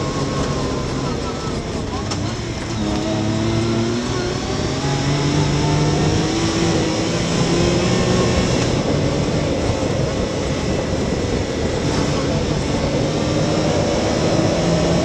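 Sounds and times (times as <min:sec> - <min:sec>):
engine accelerating: 0:00.0 - 0:15.0.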